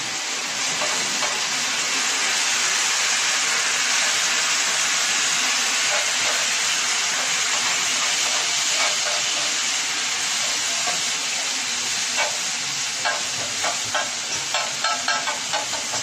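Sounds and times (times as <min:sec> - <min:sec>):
sauce sizzling on griddle: 0:00.0 - 0:16.0.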